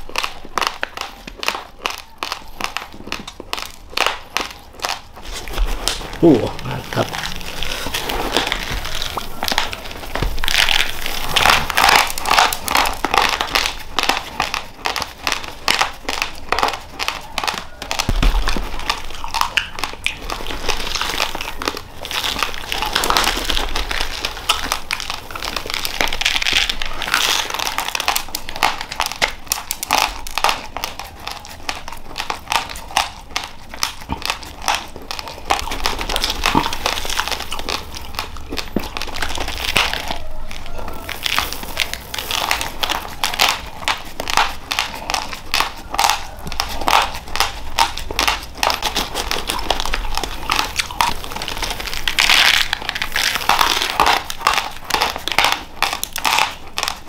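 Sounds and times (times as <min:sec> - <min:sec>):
plastic bag crinkling: 0:00.0 - 0:57.0.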